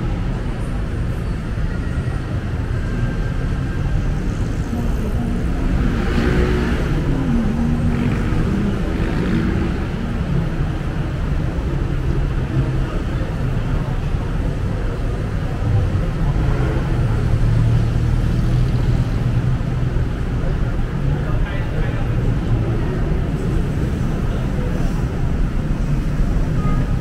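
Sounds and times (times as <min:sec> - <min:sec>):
city road traffic rumble: 0:00.0 - 0:27.0.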